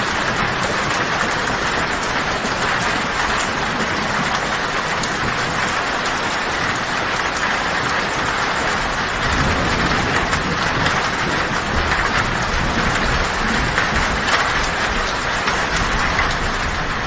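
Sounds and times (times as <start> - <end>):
heavy rain on a tin roof: 0.0 - 17.0
low thunder rumble: 0.0 - 17.0
raindrop ticks on metal: 0.1 - 16.8.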